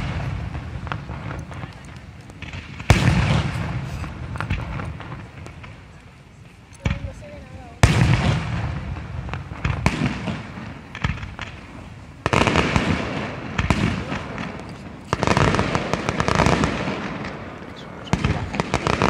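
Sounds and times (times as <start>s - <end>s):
firework shells bursting with bangs: 0.0s - 19.0s
fireworks crackling: 0.0s - 19.0s.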